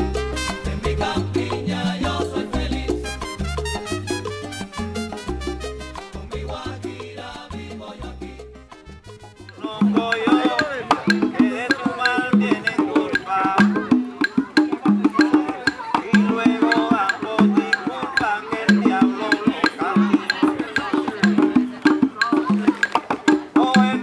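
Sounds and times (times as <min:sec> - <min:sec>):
conga drums: 0:00.0 - 0:24.0
person singing: 0:00.4 - 0:03.4, 0:06.0 - 0:08.6, 0:09.6 - 0:24.0.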